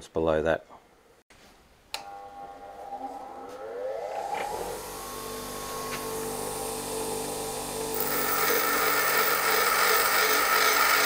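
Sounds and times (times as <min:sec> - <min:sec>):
bench grinder motor running: 0:02.1 - 0:11.0.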